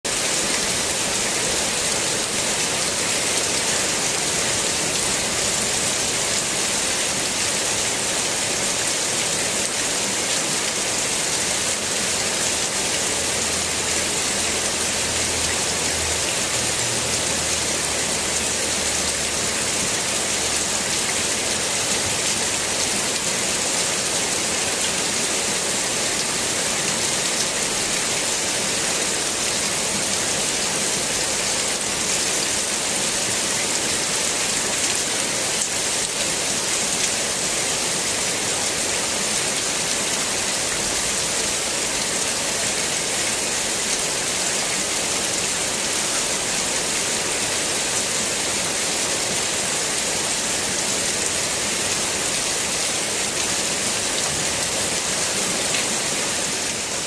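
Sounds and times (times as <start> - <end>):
rain on leaves: 0.0 - 57.0.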